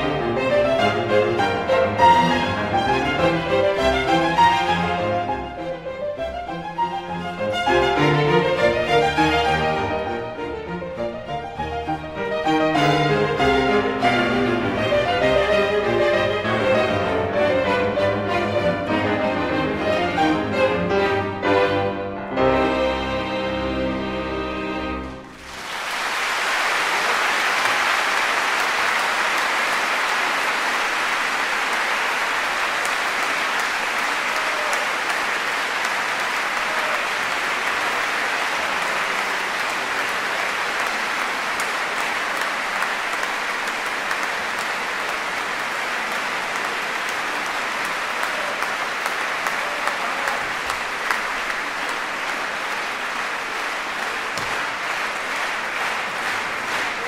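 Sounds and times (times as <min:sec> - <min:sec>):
large audience applauding: 0:00.0 - 0:20.9, 0:24.4 - 0:57.0.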